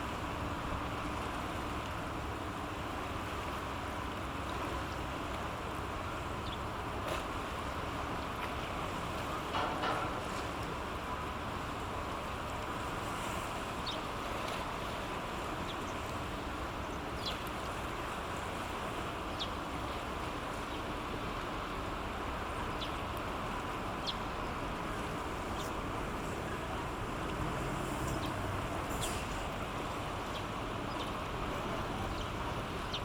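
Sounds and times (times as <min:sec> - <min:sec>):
passing cargo ship: 0:00.0 - 0:33.0
steady outdoor hiss: 0:00.0 - 0:33.0.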